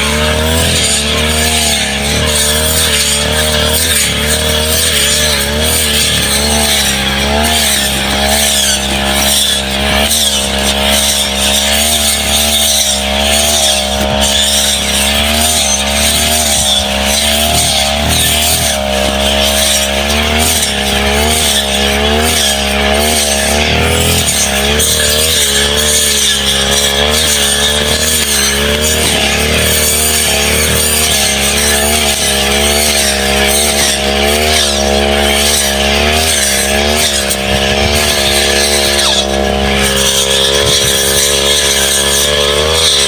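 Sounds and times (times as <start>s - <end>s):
brush cutter engine running: 0.0s - 43.0s.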